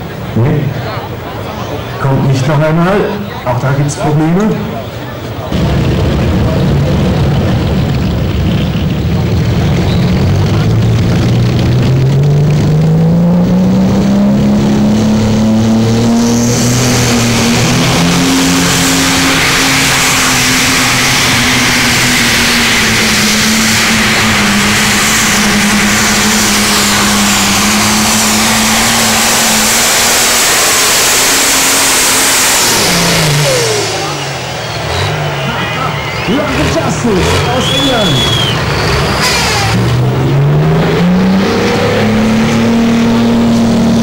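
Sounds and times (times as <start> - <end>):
diesel tractor engine revving: 0.0 - 44.0.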